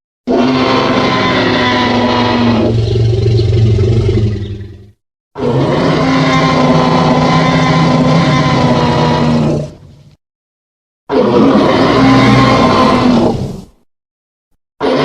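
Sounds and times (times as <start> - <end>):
deep dinosaur roar: 0.3 - 9.8, 11.1 - 13.8.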